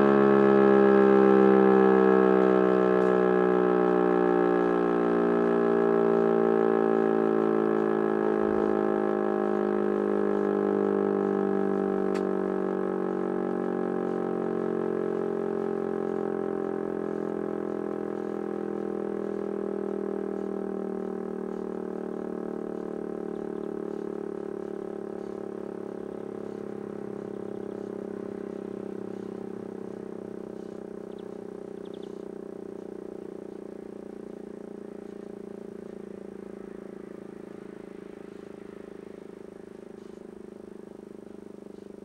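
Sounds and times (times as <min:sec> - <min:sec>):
rotor siren winding down: 0:00.0 - 0:42.0.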